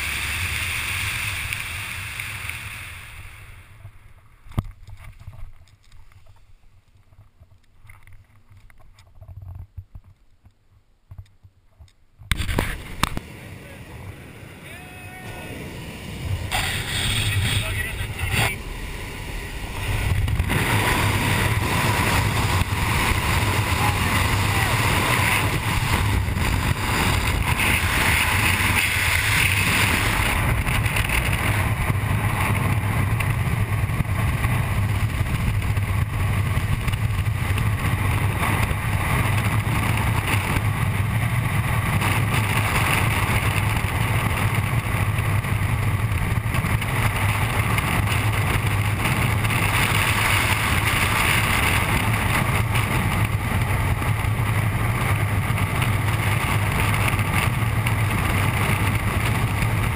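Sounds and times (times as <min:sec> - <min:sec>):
wind rushing over camera: 0:00.0 - 0:59.9.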